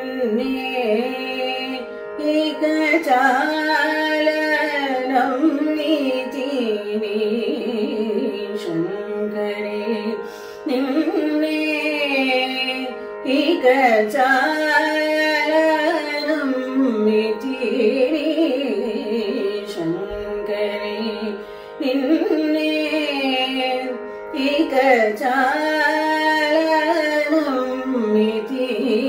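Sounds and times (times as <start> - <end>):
woman singing ornamented phrases: 0.0 - 29.0.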